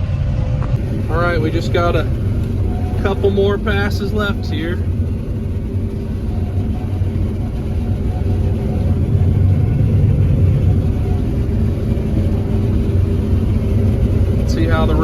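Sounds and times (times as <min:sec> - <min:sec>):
combine harvester droning: 0:00.0 - 0:15.0.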